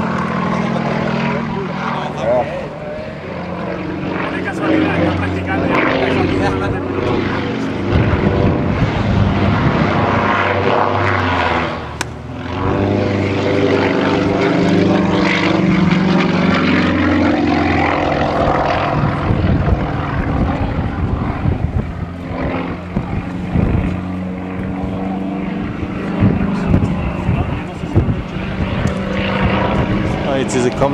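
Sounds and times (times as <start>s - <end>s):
propeller plane engine: 0.0s - 30.9s.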